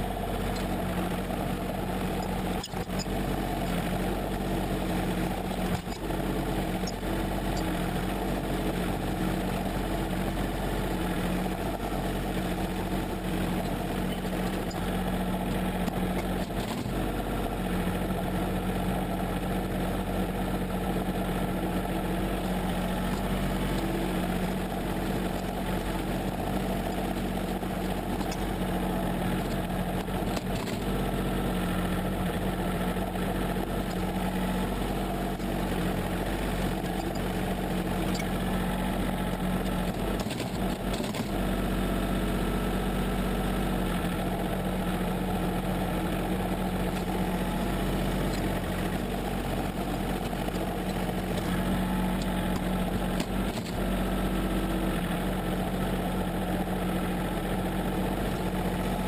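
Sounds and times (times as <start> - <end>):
loader bucket pushing snow: 0.0 - 59.0
tractor diesel engine running: 0.0 - 59.0.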